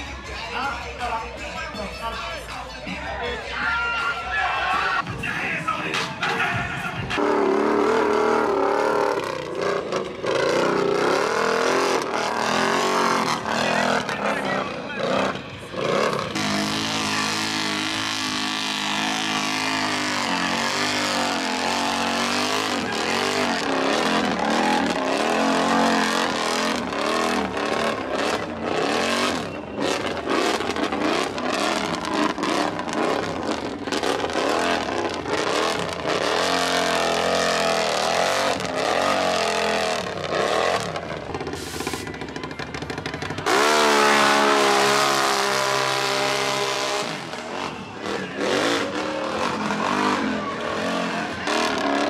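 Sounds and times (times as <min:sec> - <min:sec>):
atv engines revving: 0:00.0 - 0:52.0.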